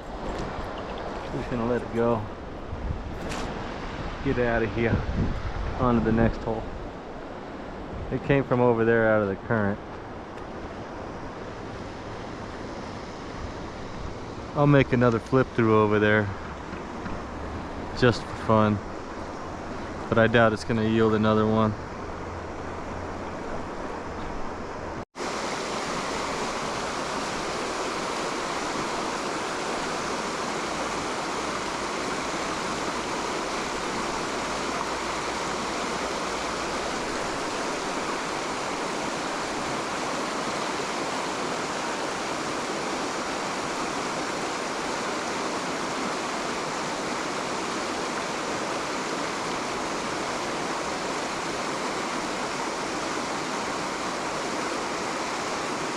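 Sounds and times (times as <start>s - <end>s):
river current rushing: 0.0s - 55.9s.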